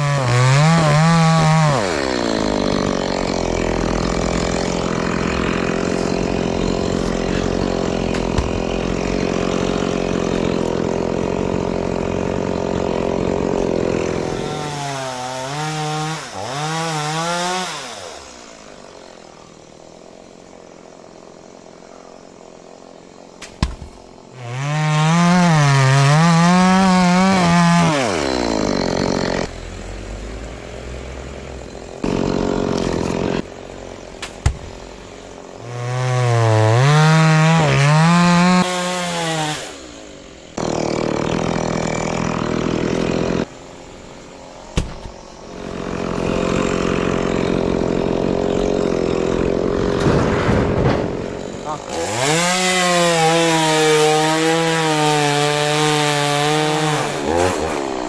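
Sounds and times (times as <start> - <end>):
chainsaw revving: 0.0 - 20.2, 24.2 - 30.3, 30.9 - 34.1, 34.7 - 43.6, 45.4 - 58.0.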